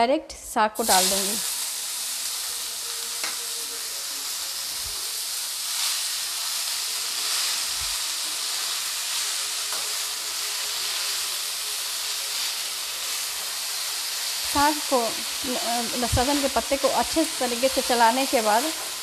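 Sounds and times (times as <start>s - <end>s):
leaves sizzling in hot oil: 0.8s - 19.0s.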